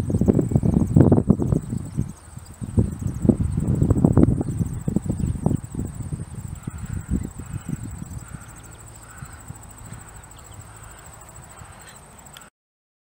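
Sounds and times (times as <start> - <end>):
wind buffeting microphone: 0.0 - 11.8
high insect trill: 0.0 - 12.5.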